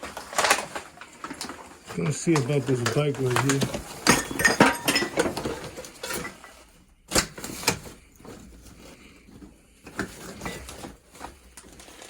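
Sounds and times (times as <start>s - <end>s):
objects knocking and rattling: 0.0s - 12.0s.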